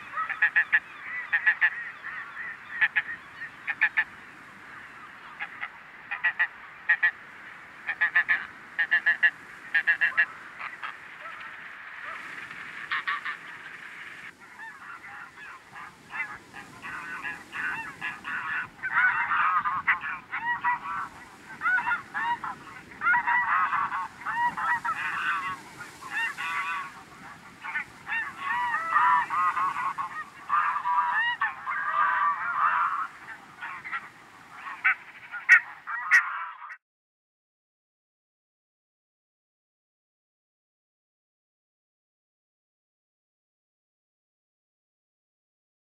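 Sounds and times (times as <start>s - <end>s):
geese honking: 0.0s - 36.8s.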